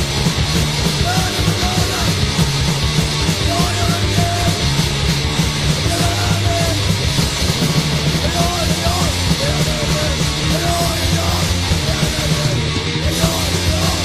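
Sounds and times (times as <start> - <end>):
hardcore punk band playing: 0.0 - 14.0.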